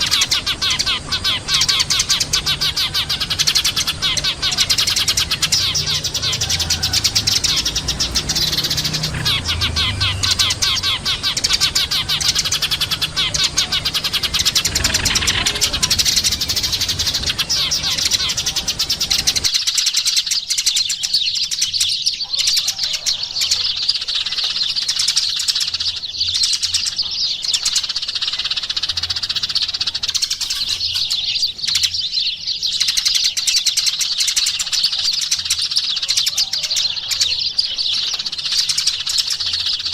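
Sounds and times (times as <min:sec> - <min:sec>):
low background noise: 0:00.0 - 0:39.9
sparrows chirping: 0:00.0 - 0:39.9.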